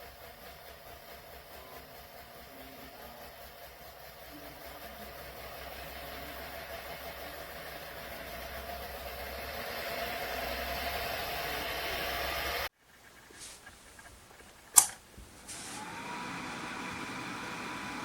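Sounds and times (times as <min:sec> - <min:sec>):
fan running with motor hum: 0:00.0 - 0:12.7, 0:13.7 - 0:18.0.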